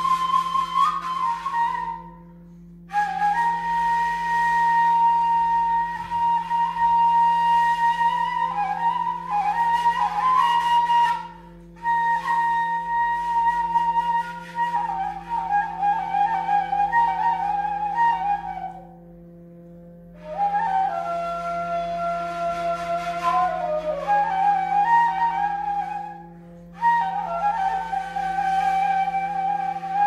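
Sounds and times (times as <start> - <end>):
wooden flute slow melody: 0.0 - 30.0.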